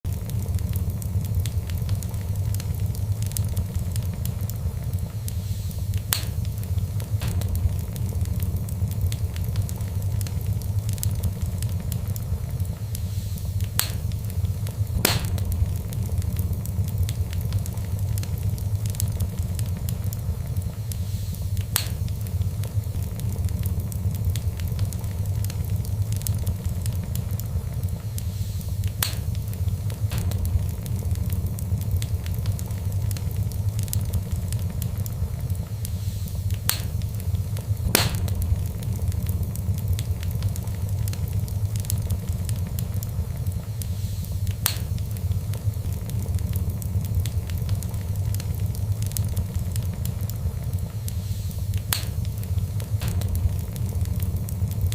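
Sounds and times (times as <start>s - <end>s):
fireplace fire crackling: 0.0s - 54.9s.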